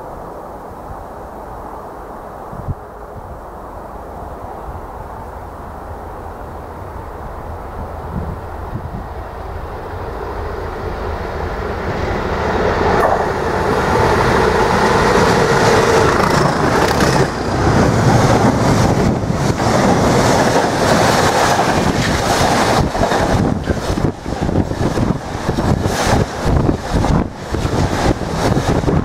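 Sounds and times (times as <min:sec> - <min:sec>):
diesel locomotives under power: 0:02.9 - 0:29.0.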